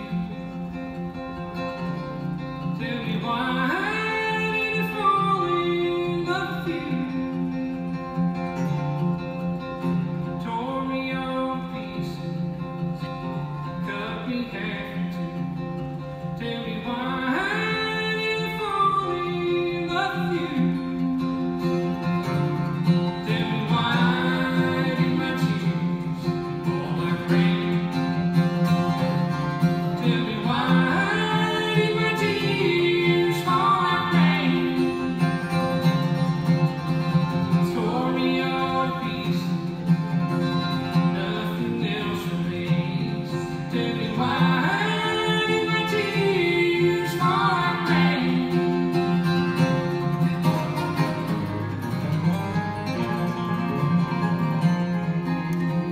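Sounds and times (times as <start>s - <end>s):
acoustic guitar: 0.0s - 55.9s
man singing country song: 0.0s - 55.9s
plucked string instrument: 0.0s - 55.9s.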